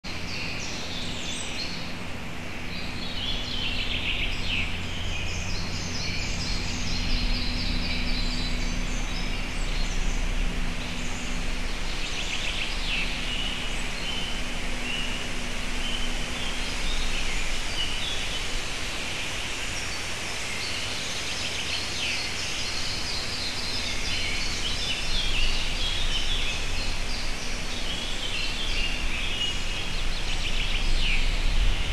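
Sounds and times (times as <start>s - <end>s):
low steady hum: 0.1s - 31.9s
small birds chirping: 0.1s - 31.9s
steady background hiss: 0.1s - 31.9s.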